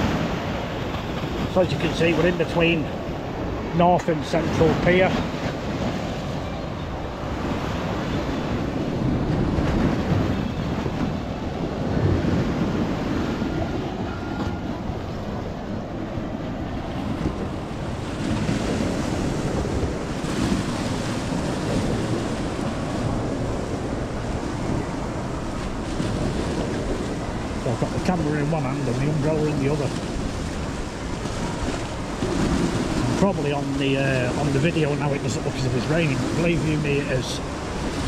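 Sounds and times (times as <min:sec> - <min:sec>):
waves breaking on sea wall: 0:00.0 - 0:38.0
wind buffeting microphone: 0:00.0 - 0:38.0.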